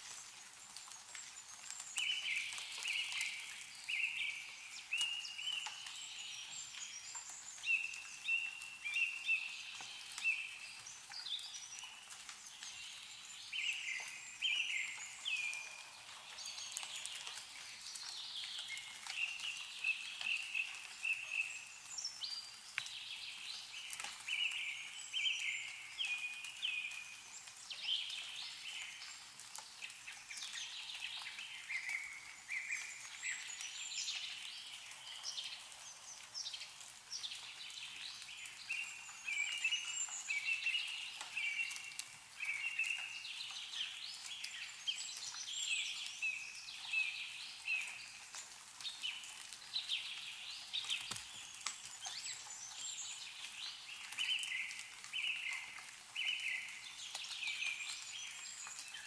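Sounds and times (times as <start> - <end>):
meltwater dripping: 0.0 - 59.0
songbirds chirping and trilling: 0.2 - 59.0.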